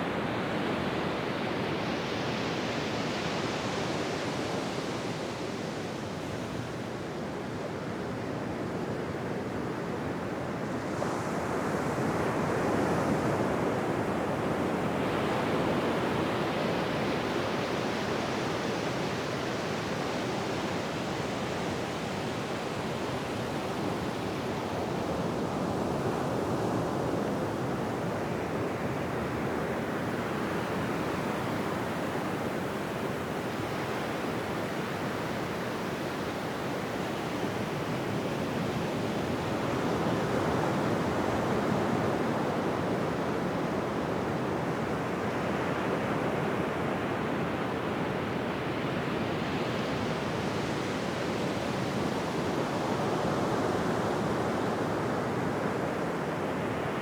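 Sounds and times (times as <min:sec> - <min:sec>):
ocean waves on a beach: 0:00.0 - 0:57.0.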